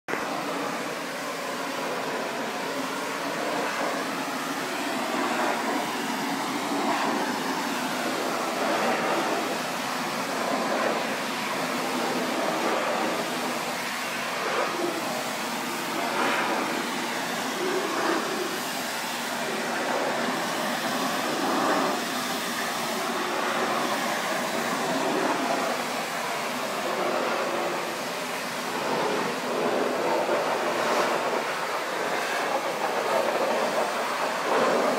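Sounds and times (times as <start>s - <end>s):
pressure washer spraying wood: 0.1s - 34.9s.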